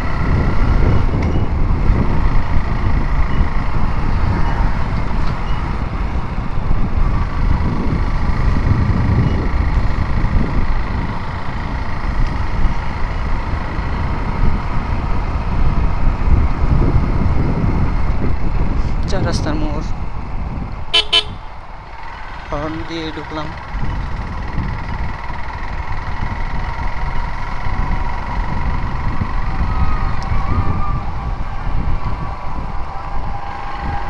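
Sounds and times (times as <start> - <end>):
motorcycle engine: 0.0 - 18.7, 20.0 - 34.0
wind rumble: 0.0 - 34.0.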